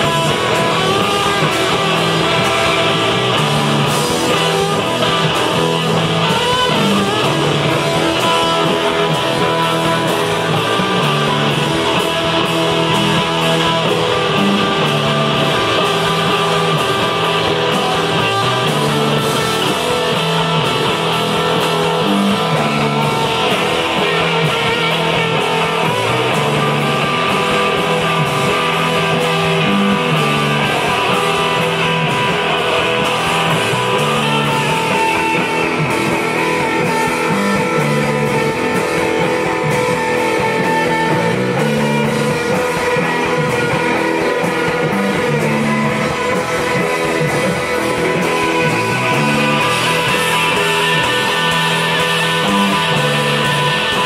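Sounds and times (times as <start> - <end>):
drums with cymbals: 0.0 - 54.0
electric guitar: 0.0 - 54.0.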